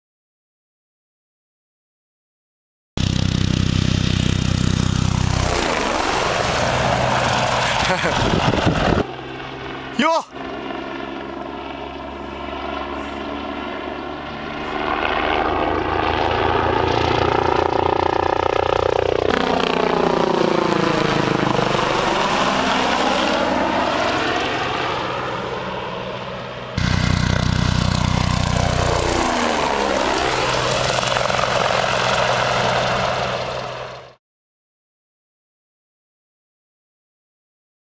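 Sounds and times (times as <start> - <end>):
helicopter flying past: 3.0 - 34.2.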